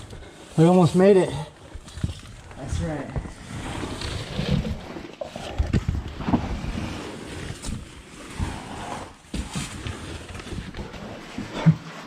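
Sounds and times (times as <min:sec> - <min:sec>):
scraping and rustling in cave: 0:00.0 - 0:12.0.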